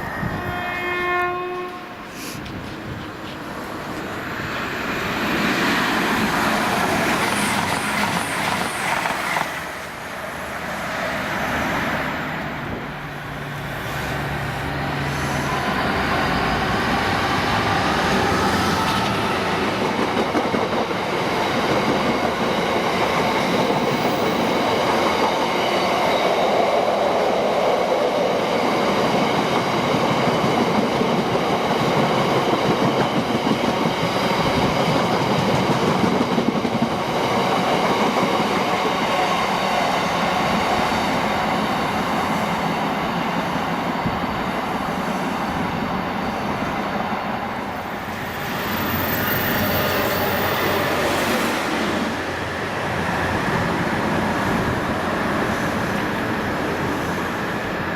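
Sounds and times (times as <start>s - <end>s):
train running past: 0.0s - 57.9s.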